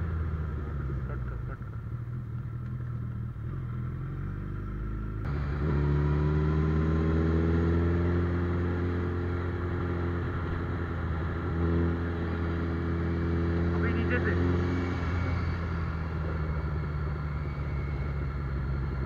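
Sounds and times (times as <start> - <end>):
motorcycle engine accelerating: 0.0 - 19.0
road noise: 0.0 - 19.0.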